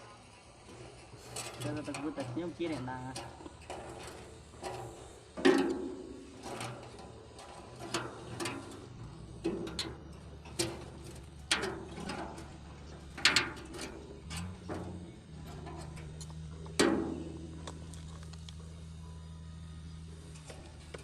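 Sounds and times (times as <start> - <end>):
low steady hum: 0.0 - 21.0
ringing metal knocks and clanks: 0.7 - 17.9.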